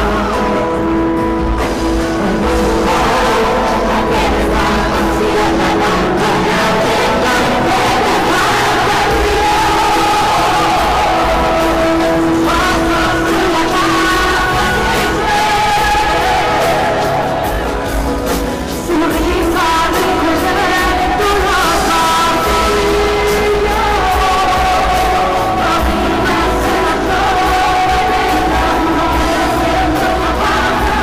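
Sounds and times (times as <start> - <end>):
band playing a song with singing: 0.0 - 31.0.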